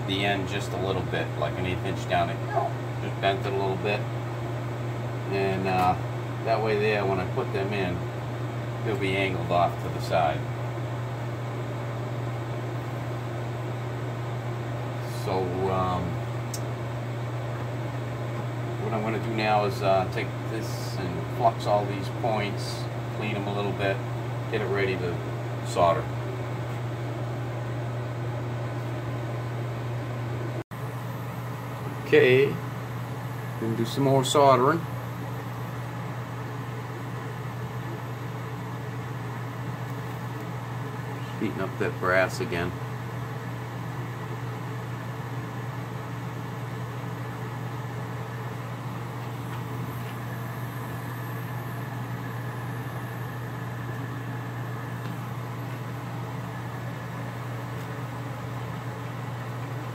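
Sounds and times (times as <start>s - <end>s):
low hum with hiss: 0.0s - 59.9s.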